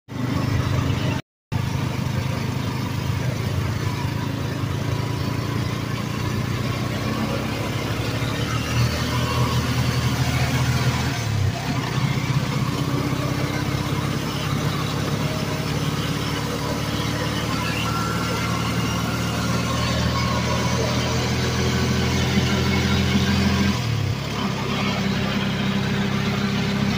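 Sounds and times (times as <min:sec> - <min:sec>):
auto-rickshaw engine drone: 0:00.1 - 0:26.9
road noise: 0:00.1 - 0:26.9.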